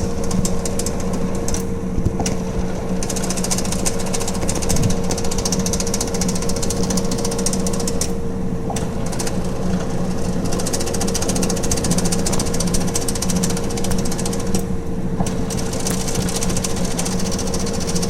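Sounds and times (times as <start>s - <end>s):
fast continuous rattle: 0.0s - 18.0s
washing machine motor humming: 0.0s - 18.0s.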